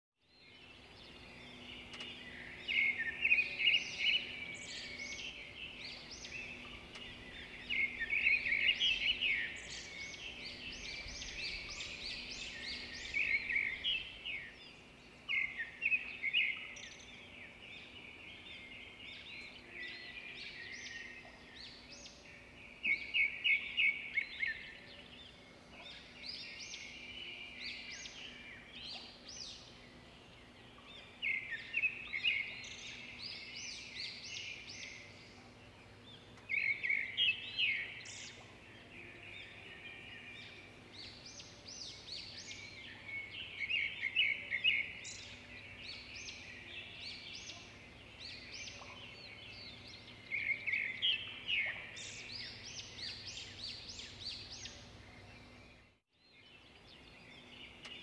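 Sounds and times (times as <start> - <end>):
birds chirping: 0.4 - 58.0.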